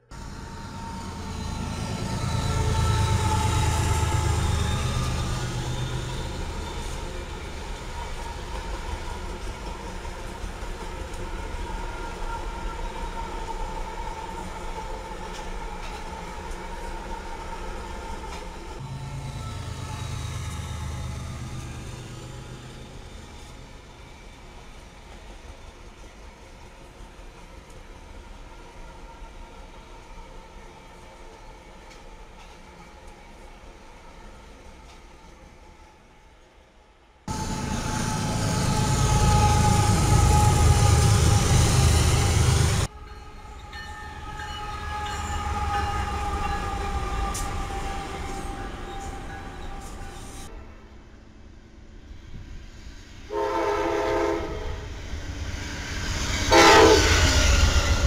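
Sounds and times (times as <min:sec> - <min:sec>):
train cars rolling on rails: 0:00.0 - 0:36.2, 0:37.3 - 0:50.6
train engine rumble: 0:00.0 - 0:58.0.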